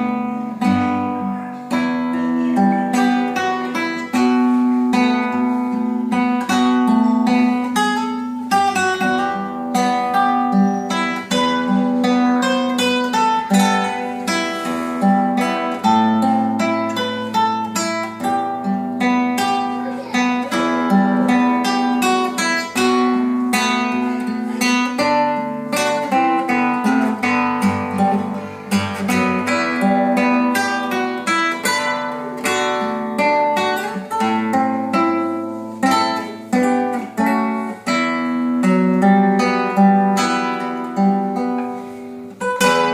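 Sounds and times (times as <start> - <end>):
fingerpicked classical guitar: 0.0 - 42.9.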